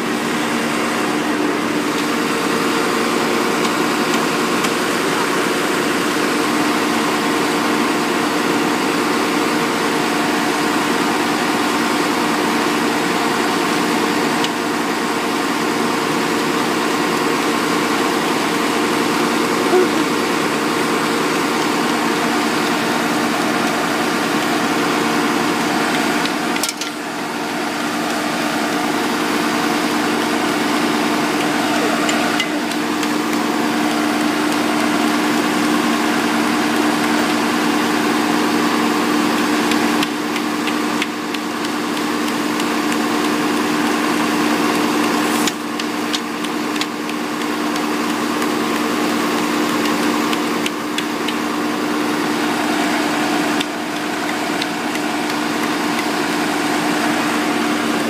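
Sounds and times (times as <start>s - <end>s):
truck engine idling: 0.0s - 38.5s, 44.7s - 58.0s.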